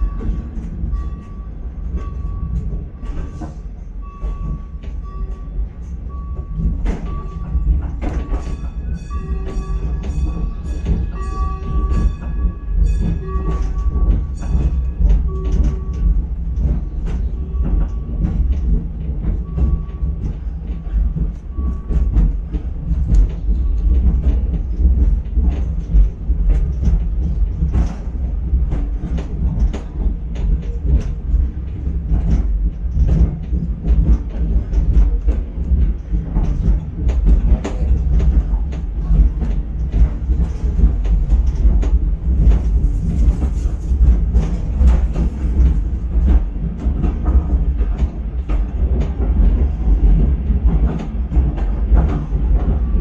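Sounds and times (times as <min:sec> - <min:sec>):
tram low rumble: 0:00.0 - 0:53.0
wheels clacking and rattling: 0:00.0 - 0:53.0.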